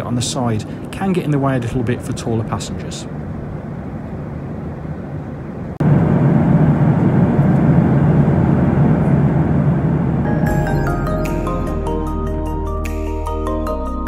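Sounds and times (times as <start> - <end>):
airplane cabin engine rumble: 0.0 - 12.6.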